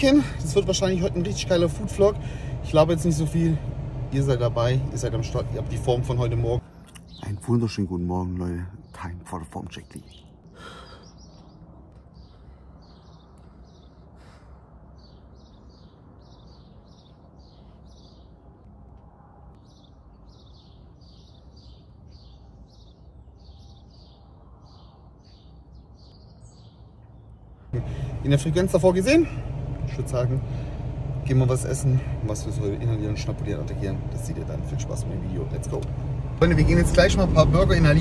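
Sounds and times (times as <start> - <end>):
bird chirping: 0.0 - 18.8, 19.5 - 38.0.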